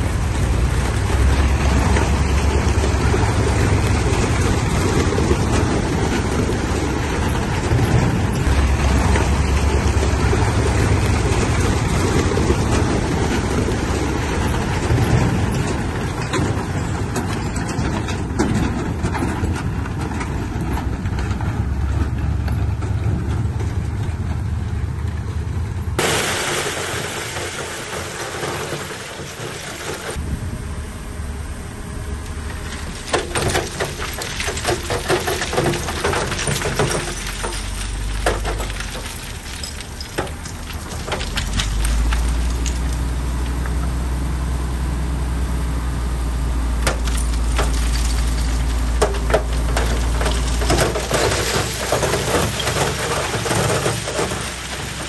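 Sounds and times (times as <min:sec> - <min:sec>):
heavy diesel machinery rumbling: 0:00.0 - 0:55.0.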